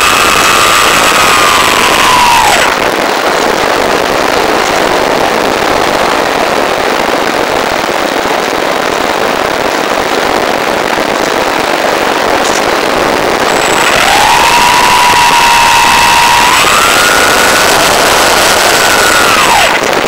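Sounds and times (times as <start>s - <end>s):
rush of airflow with crackling hiss: 0.0s - 20.0s.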